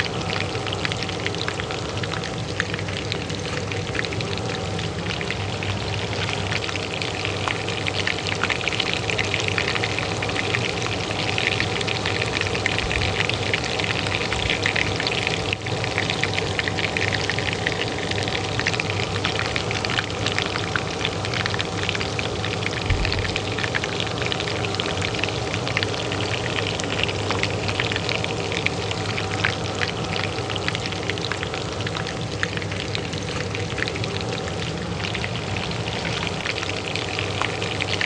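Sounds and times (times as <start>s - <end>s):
oil frying in a pan: 0.0s - 38.0s
range hood fan hum: 0.0s - 38.0s.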